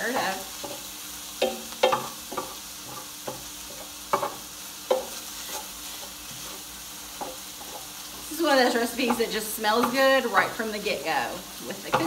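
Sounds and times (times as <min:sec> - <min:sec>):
utensil scraping pan: 0:00.0 - 0:10.6
ground beef sizzling: 0:00.0 - 0:12.0.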